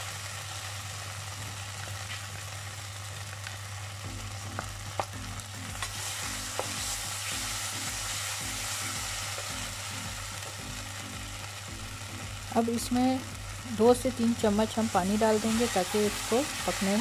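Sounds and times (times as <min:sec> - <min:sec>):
sauce sizzling in oil: 0:00.0 - 0:17.0.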